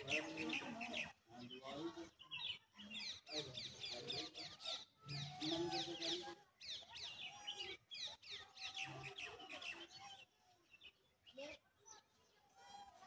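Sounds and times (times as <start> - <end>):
birds chirping: 0.0 - 12.3.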